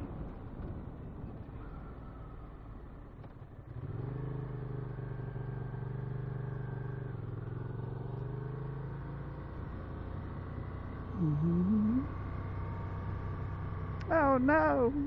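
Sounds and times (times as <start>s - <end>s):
constant rumble: 0.0s - 7.4s, 9.0s - 15.0s.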